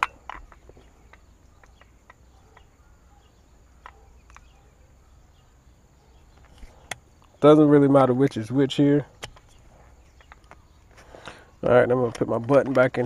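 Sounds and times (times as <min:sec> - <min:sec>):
quiet outdoor background: 0:00.0 - 0:13.0.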